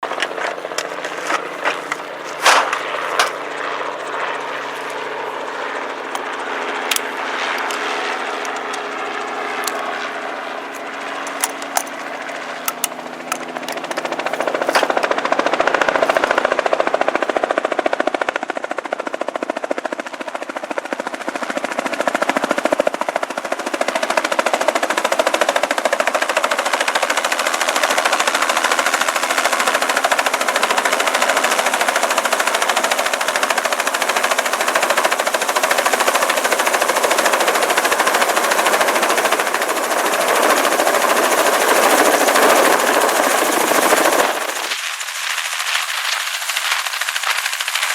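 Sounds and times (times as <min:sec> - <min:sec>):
helicopter rotor beating: 0:00.0 - 0:47.9.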